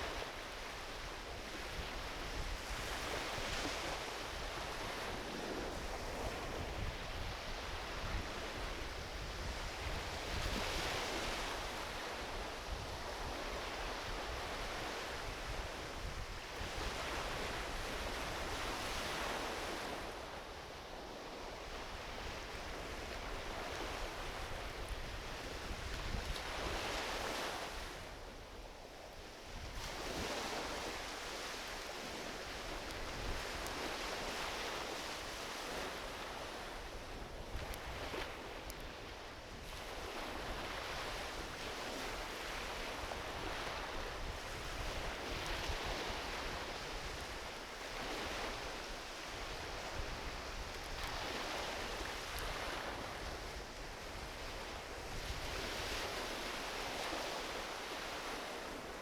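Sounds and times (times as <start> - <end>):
ocean waves washing onto beach: 0.0 - 59.0.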